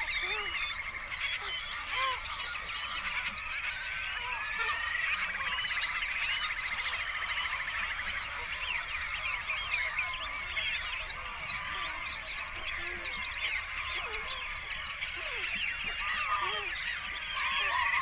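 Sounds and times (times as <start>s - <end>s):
birds chirping and whistling: 0.0s - 18.0s.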